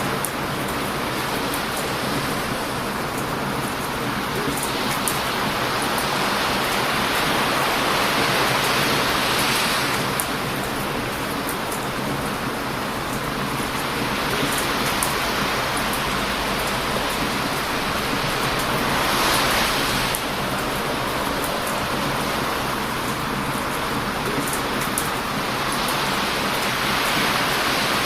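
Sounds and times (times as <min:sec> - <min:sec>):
campfire crackling: 0:00.0 - 0:28.0
ocean waves crashing: 0:00.0 - 0:28.0.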